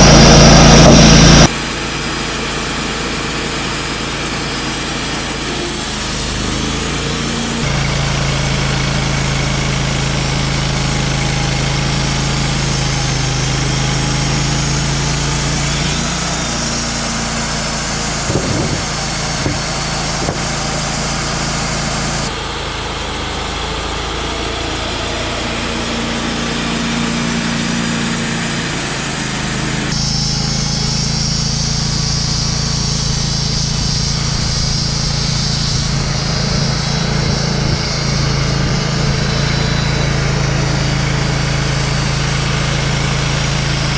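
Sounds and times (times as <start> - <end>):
sawmill engine drone: 0.0 - 43.9.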